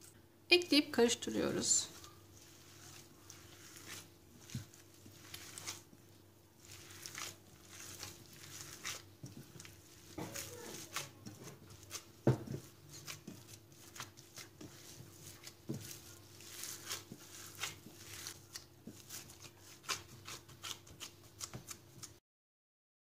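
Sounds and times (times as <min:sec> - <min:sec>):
hand kneading raw meat: 0:01.2 - 0:22.2.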